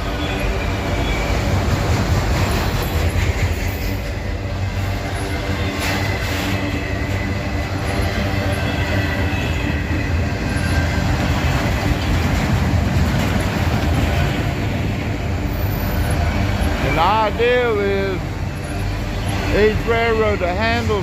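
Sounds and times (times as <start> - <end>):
high wheel squeal: 0.0 - 2.0, 2.6 - 12.2, 15.4 - 21.0
steel wheels rumbling on rails: 0.0 - 21.0.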